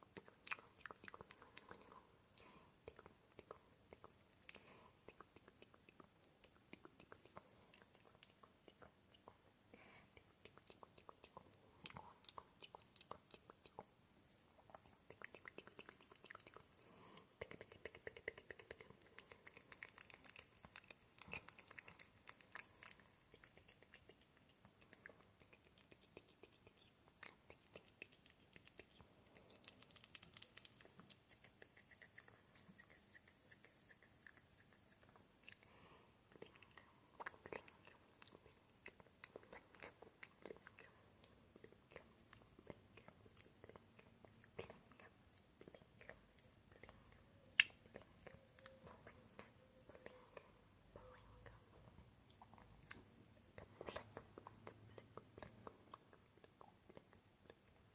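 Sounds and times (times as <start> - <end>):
mouth clicks and smacks: 0.0 - 14.0, 14.6 - 57.9.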